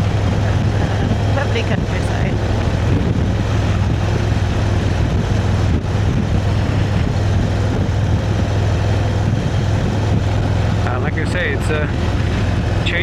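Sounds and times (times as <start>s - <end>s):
motorcycle engine cruising: 0.0s - 13.0s
road noise: 0.0s - 13.0s
rushing wind: 0.0s - 13.0s.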